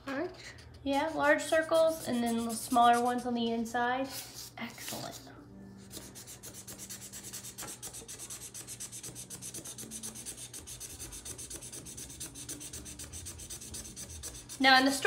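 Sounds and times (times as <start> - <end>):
marker scribbling on paper: 0.4 - 3.2, 5.8 - 15.0.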